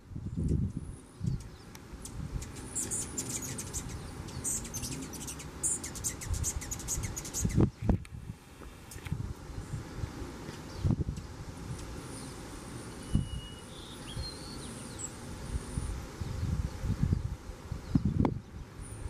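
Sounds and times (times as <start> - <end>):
wind on microphone: 0.0 - 12.4, 13.0 - 19.0
hummingbirds chittering: 0.3 - 7.8, 10.6 - 19.0.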